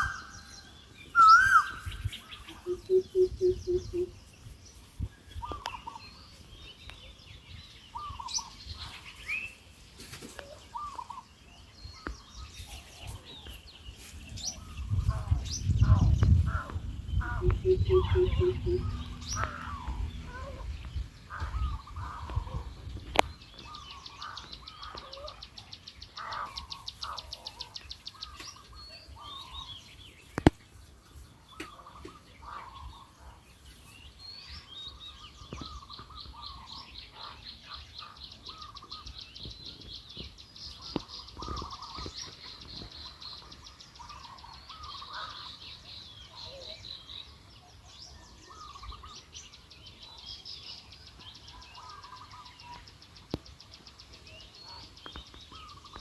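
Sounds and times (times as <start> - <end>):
birds calling: 0.0 - 56.0.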